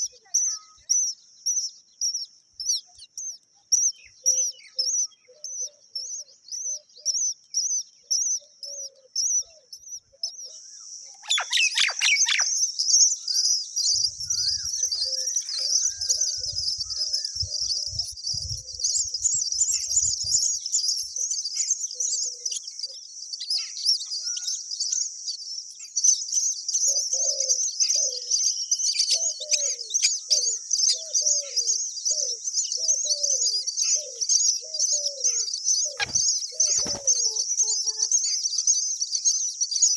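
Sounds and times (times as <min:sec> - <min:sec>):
birds chirping rapidly: 0:00.0 - 0:39.9
lower bird calls: 0:00.0 - 0:39.9.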